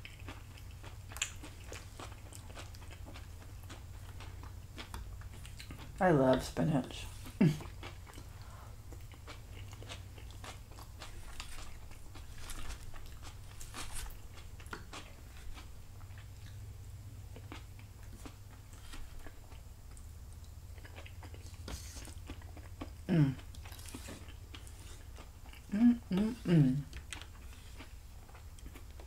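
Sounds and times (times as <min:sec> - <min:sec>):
low steady hum: 0:00.0 - 0:29.0
person chewing food: 0:00.0 - 0:29.0.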